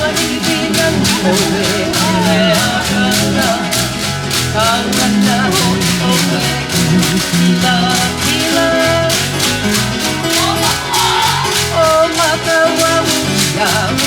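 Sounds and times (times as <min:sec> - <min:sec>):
percussive beat: 0:00.0 - 0:14.0
person singing: 0:00.0 - 0:14.0
plucked strings: 0:00.0 - 0:14.0.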